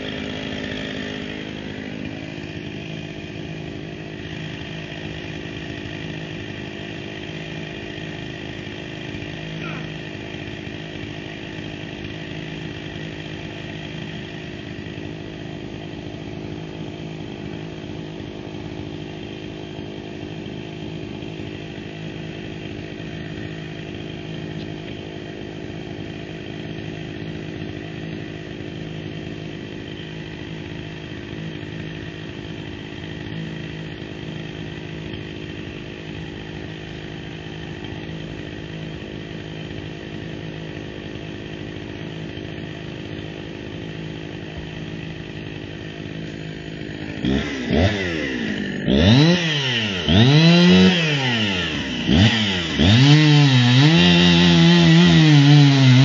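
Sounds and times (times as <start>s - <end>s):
chainsaw running: 0.0s - 56.0s.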